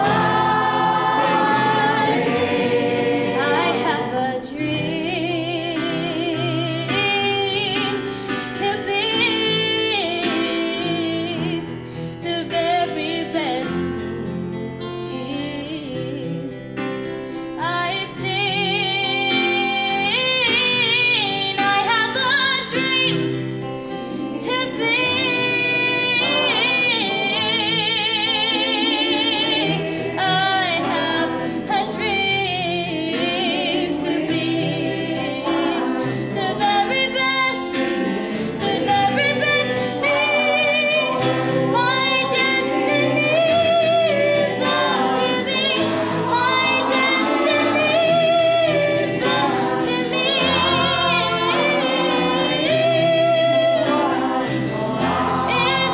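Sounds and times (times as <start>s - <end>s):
mixed choir singing: 0.0s - 11.7s, 19.1s - 55.9s
acoustic guitar: 0.0s - 55.9s
piano: 0.0s - 55.9s.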